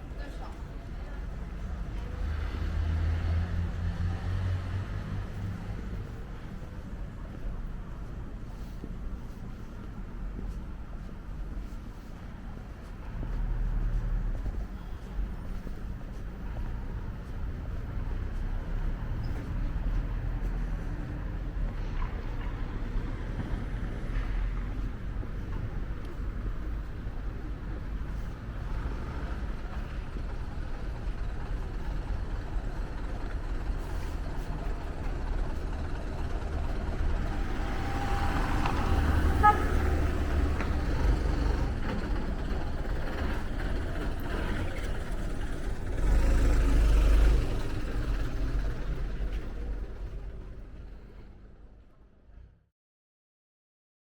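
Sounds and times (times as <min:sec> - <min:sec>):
vehicles driving past: 0:00.0 - 0:51.8
low traffic rumble: 0:00.0 - 0:52.5.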